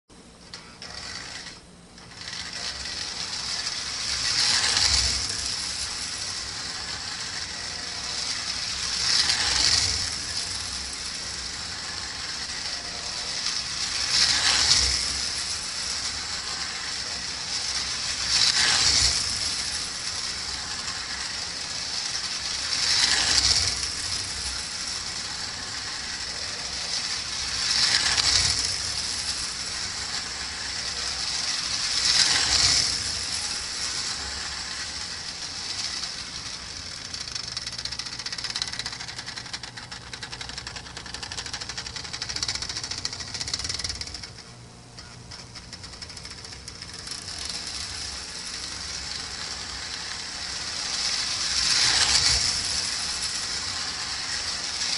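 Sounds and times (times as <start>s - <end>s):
toy train clattering on track: 0.4s - 54.9s.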